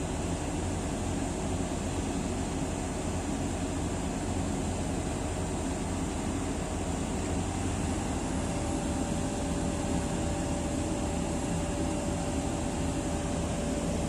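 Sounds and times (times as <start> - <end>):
thin steady whine: 0.0 - 14.0.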